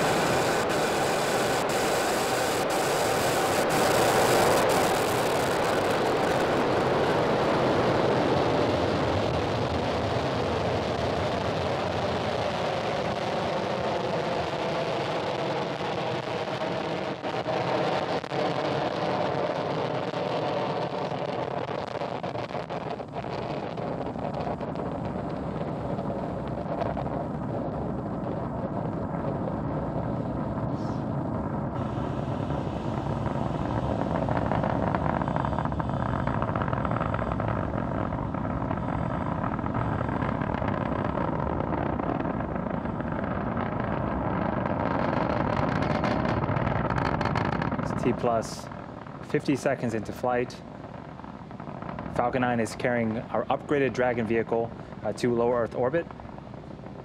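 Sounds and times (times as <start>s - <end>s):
rocket engines roaring: 0.0s - 57.0s.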